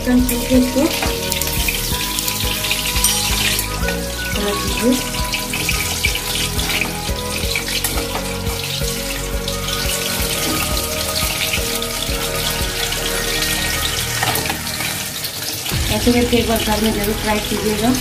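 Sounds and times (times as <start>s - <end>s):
background music: 0.0s - 18.0s
chicken deep-frying in oil: 0.0s - 18.0s.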